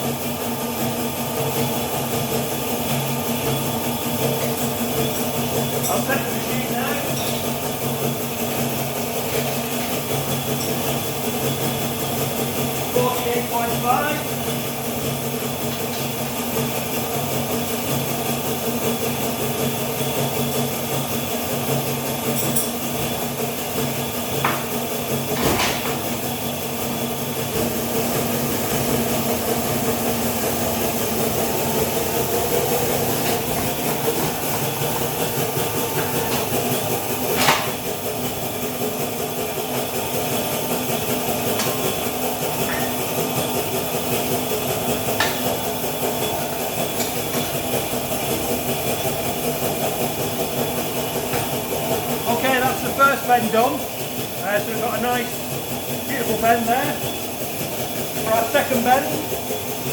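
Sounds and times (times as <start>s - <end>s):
tube bender machine hum: 0.0s - 59.9s.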